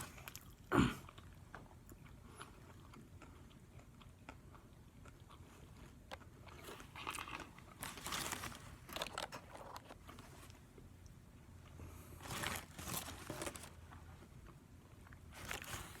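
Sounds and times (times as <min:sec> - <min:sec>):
chewing crispy food: 0:00.0 - 0:16.0
crunching of breaded coating: 0:00.0 - 0:16.0.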